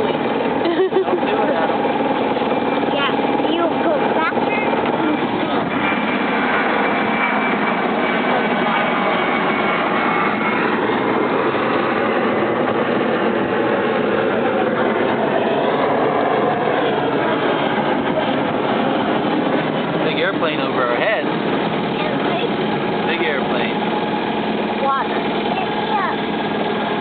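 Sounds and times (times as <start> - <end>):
boat engine rushing noise: 0.0 - 27.0.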